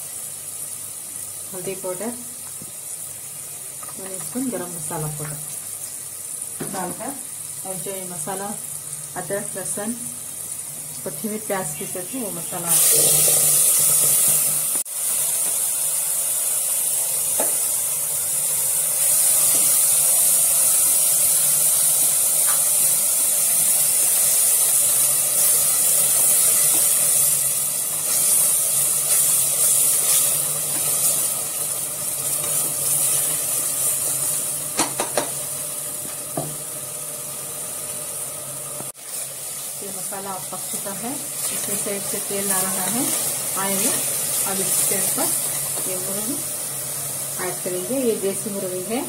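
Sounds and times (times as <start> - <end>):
paste sizzling in hot oil: 0.0 - 49.0.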